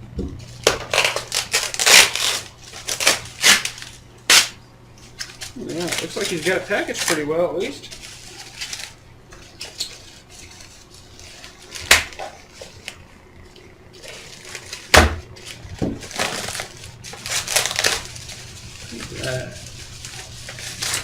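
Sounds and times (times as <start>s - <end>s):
crinkling: 0.4s - 21.0s
bubble wrap and tape handled: 0.5s - 21.0s.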